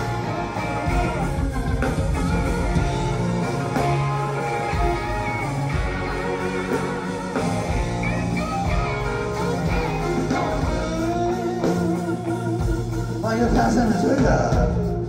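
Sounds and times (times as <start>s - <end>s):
electric guitar lines: 0.0s - 15.0s
live rock band playing: 0.0s - 15.0s.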